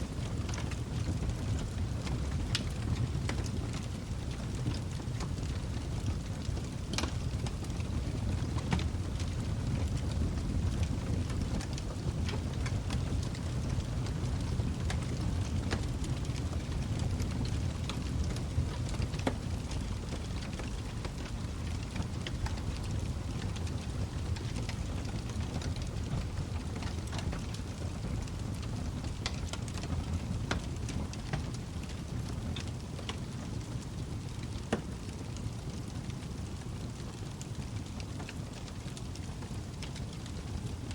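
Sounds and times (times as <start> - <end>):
burning wood crackling and popping: 0.0 - 40.9
fire burning in fireplace: 0.0 - 40.9.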